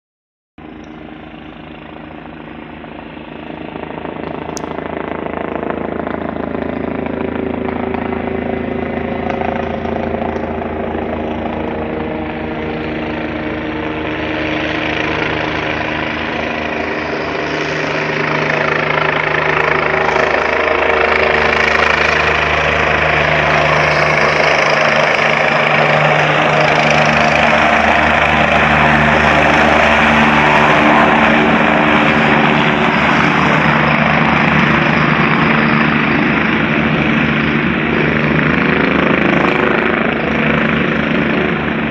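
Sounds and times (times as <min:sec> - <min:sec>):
helicopter engine and rotor: 0:00.6 - 0:41.9.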